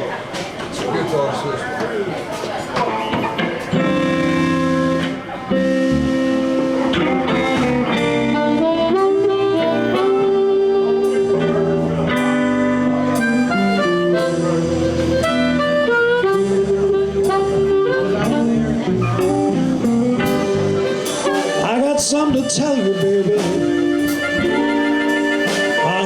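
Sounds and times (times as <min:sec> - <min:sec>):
guitar: 0:01.8 - 0:26.0
blues band playing: 0:02.4 - 0:26.0
harmonica: 0:03.7 - 0:26.0.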